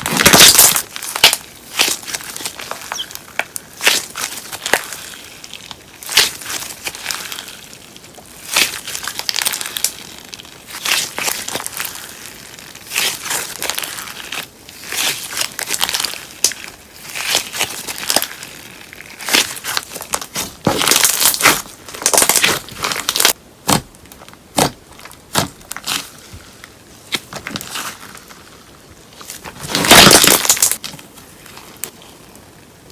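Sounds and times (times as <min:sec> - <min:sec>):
slime squished by hand: 0:00.0 - 0:30.9.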